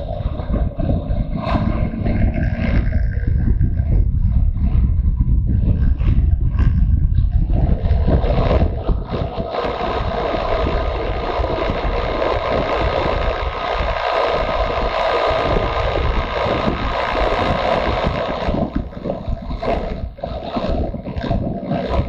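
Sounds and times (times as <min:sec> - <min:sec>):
motorcycle engine: 0:00.0 - 0:22.0
wind buffeting microphone: 0:00.0 - 0:22.0.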